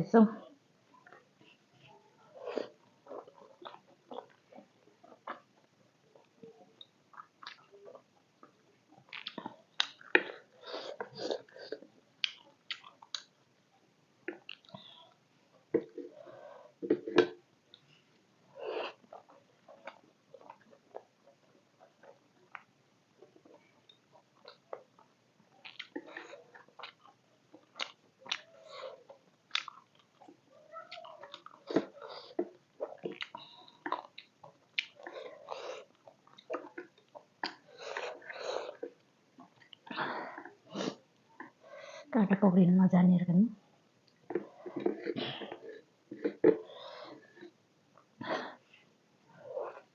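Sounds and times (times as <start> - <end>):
chewing and wet mouth sounds: 1.0 - 17.9, 18.5 - 41.9.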